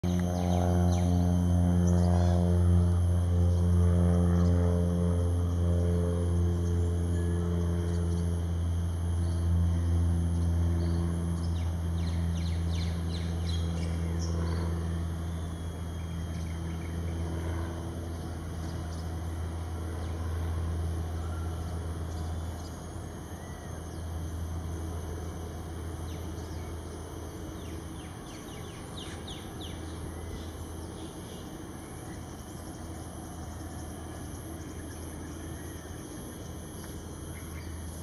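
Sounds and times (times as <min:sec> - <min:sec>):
low droning hum: 0:00.0 - 0:38.0
outdoor ambience: 0:00.0 - 0:38.0.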